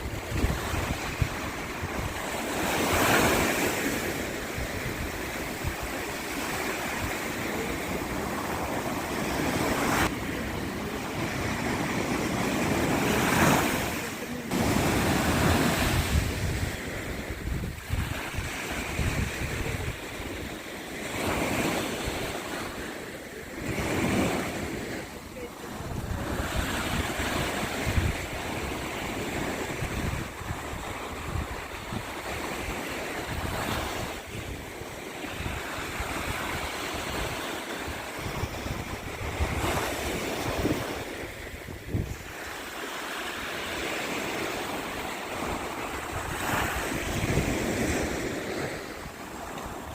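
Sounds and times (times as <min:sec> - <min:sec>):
wind buffeting microphone: 0:00.0 - 0:22.8, 0:23.6 - 0:42.6, 0:43.5 - 0:49.9
waves washing onto shore: 0:00.0 - 0:49.9.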